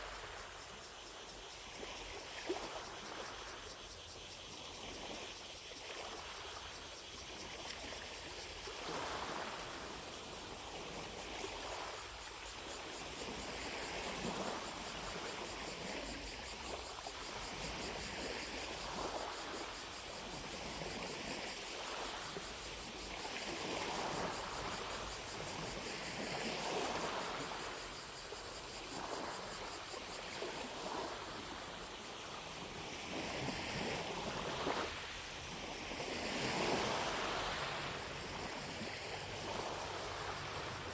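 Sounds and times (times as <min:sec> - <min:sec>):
distant cicadas droning: 0:00.0 - 0:40.9
lake waves lapping at shore: 0:00.0 - 0:40.9.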